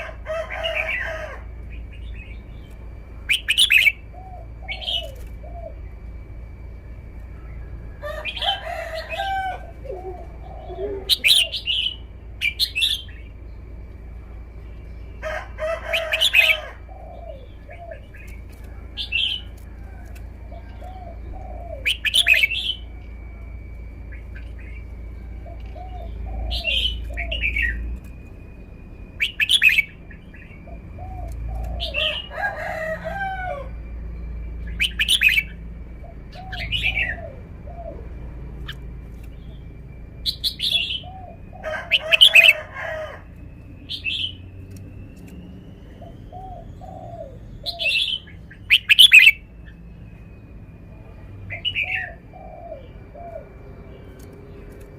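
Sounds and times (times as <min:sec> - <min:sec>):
bulbul singing: 0:00.0 - 0:54.9
faint steady high tone: 0:00.0 - 0:54.9.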